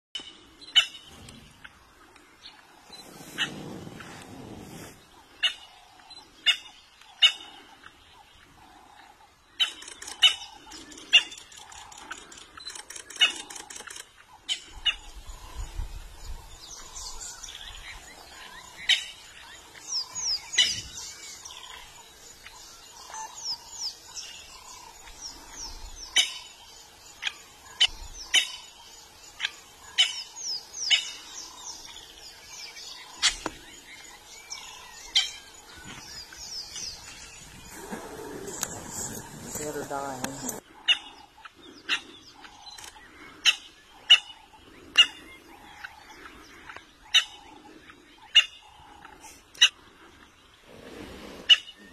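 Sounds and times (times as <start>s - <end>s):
bird chirps: 0.2s - 4.5s, 5.4s - 50.6s.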